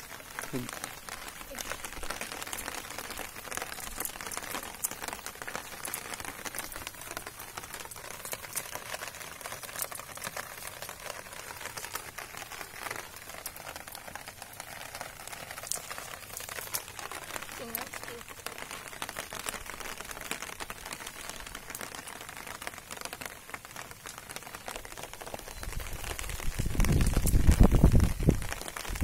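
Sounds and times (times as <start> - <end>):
rain falling: 0.0 - 29.0
sharp raindrop ticks: 0.0 - 29.0.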